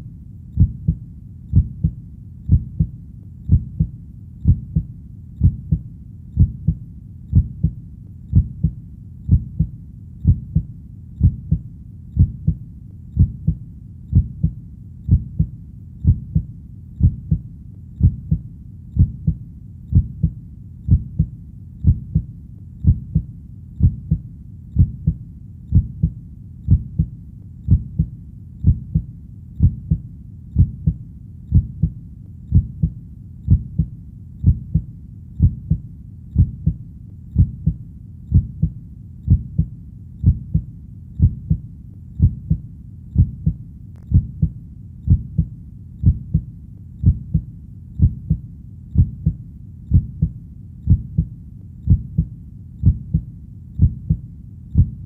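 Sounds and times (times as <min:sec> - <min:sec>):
faint low background noise: 0:00.0 - 0:55.0
heartbeat: 0:00.0 - 0:55.0.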